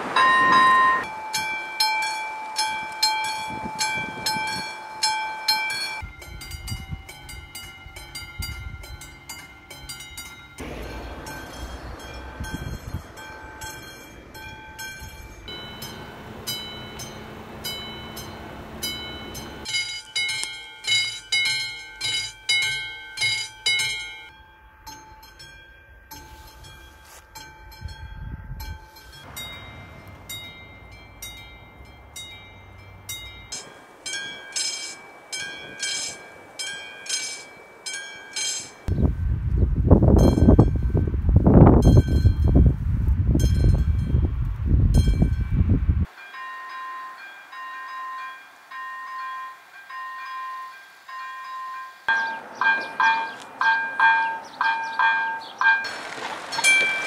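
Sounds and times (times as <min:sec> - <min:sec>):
train passing rumble: 0:00.0 - 0:21.2, 0:28.6 - 0:42.8, 0:43.4 - 0:57.0
level crossing bells ringing: 0:00.1 - 0:38.9, 0:46.0 - 0:56.0.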